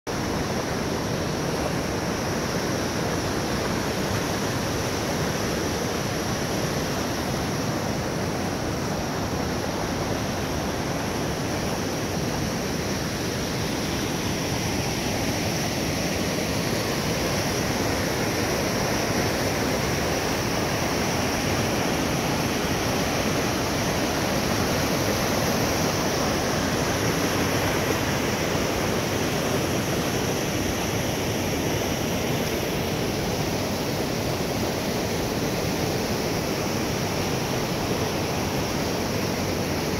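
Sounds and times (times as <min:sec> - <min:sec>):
whitewater rushing: 0:00.1 - 0:39.9.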